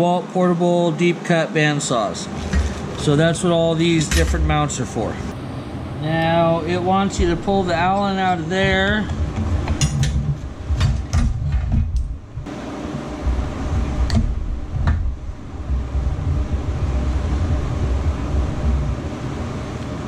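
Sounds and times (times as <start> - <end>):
low rumble: 2.3 - 20.0.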